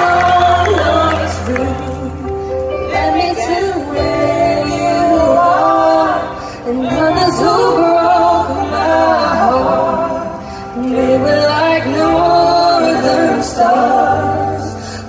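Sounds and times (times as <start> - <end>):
amplified backing music: 0.0 - 15.0
woman singing country ballad: 0.0 - 15.0.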